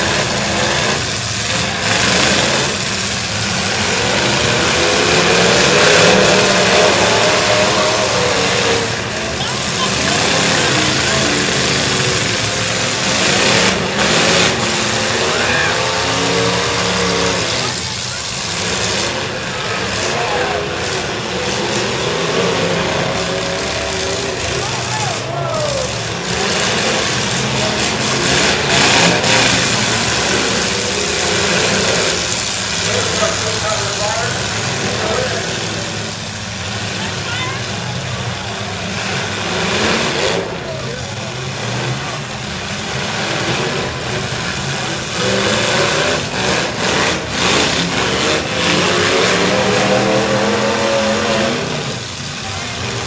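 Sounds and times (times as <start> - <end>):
truck engines revving: 0.0 - 53.0
trucks ramming with bangs: 0.0 - 53.0.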